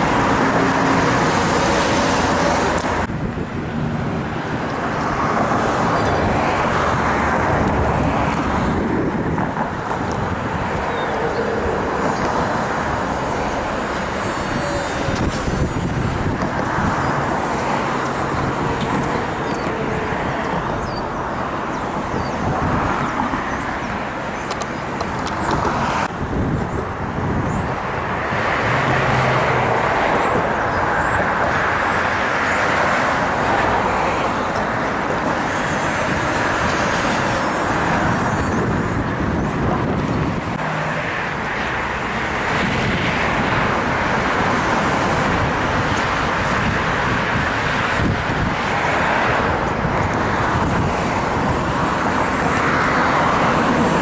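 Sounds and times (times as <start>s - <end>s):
passing cars: 0.0s - 54.0s
streetcar running on tracks: 0.0s - 54.0s.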